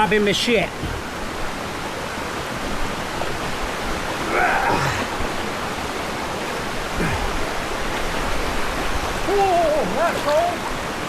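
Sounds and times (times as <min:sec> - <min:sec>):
waterfall rushing into pools: 0:00.0 - 0:11.0.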